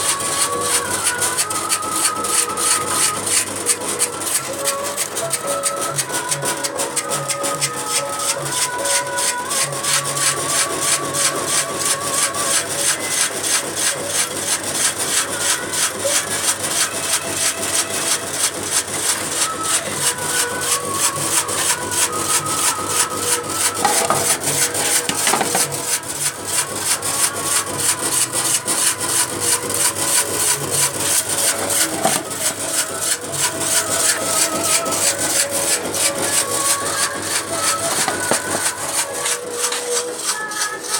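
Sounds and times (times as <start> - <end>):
electric slicing machine cutting: 0.0 - 40.9.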